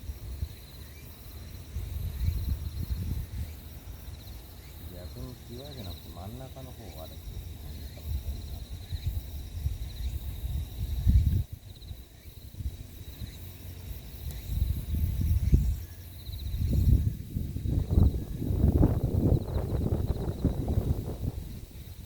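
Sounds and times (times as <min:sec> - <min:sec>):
insects trilling: 0:00.0 - 0:22.0
wind buffeting microphone: 0:01.4 - 0:03.8, 0:05.0 - 0:22.0.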